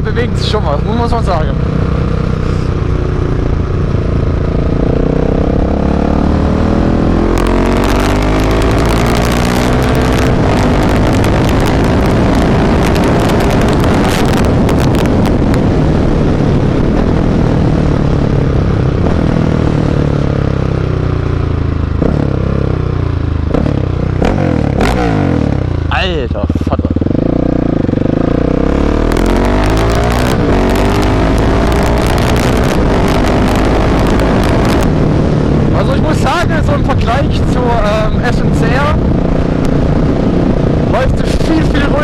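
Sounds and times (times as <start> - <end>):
loud rushing and crackling: 0.0 - 42.0
motorcycle engine revving: 0.0 - 42.0.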